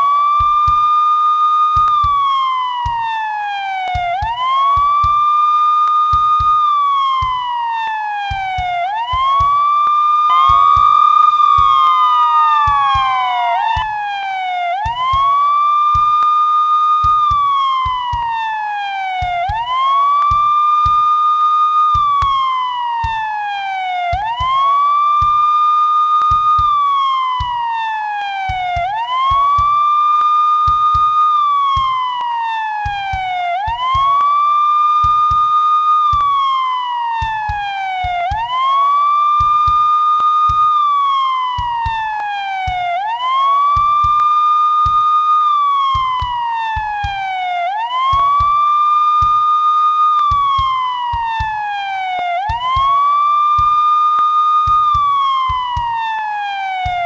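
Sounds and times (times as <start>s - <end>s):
police siren wailing: 0.0s - 57.0s.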